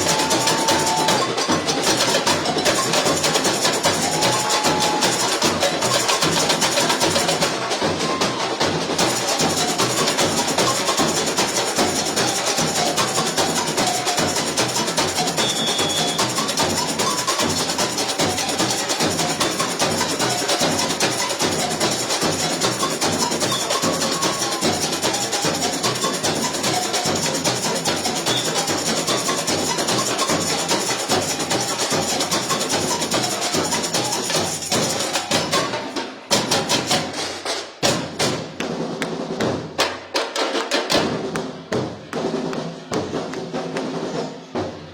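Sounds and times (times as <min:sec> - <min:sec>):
samba drum corps playing: 0:00.0 - 0:44.9.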